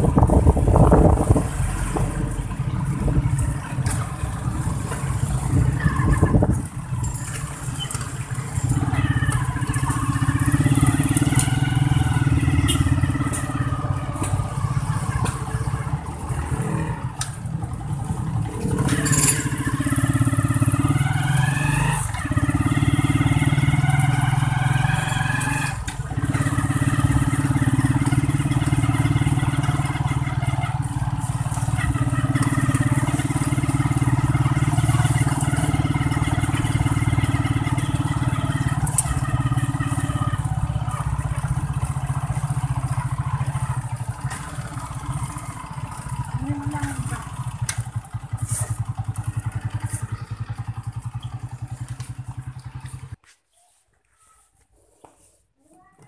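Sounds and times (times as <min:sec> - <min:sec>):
motorcycle engine running: 0:00.0 - 0:53.3.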